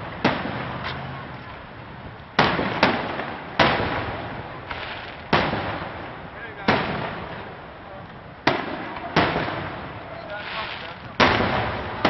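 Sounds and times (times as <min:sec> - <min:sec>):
firework shells bursting: 0:02.3 - 0:12.0.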